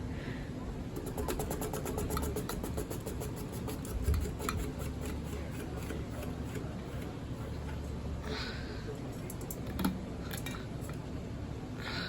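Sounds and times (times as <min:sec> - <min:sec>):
ceiling fan ticking and humming: 0:00.0 - 0:12.0.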